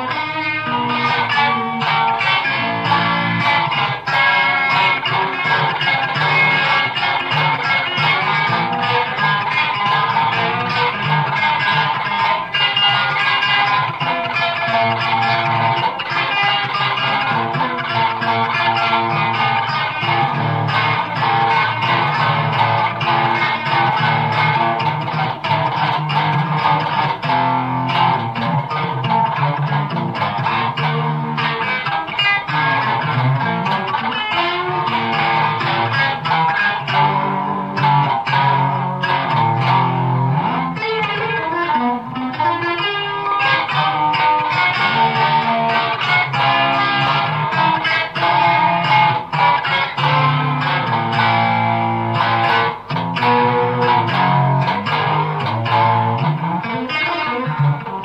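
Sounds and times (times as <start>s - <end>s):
electric guitar improvisation: 0.0s - 58.0s.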